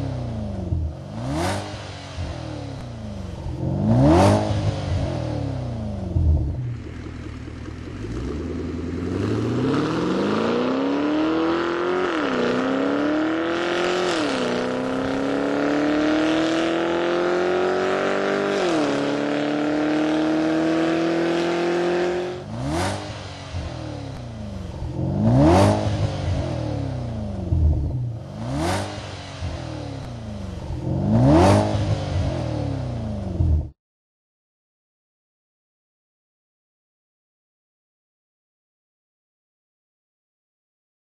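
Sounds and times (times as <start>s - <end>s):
car engine accelerating: 0.0s - 33.8s.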